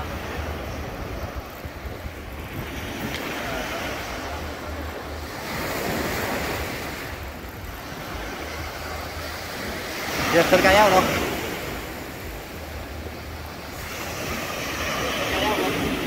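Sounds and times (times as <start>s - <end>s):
sea waves washing onto beach: 0.0s - 16.0s
wind rumbling on microphone: 0.0s - 16.0s.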